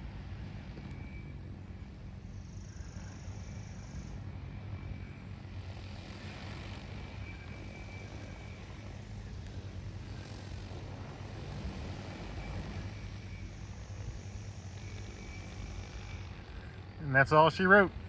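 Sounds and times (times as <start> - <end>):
drone rotors humming: 0.0 - 18.0.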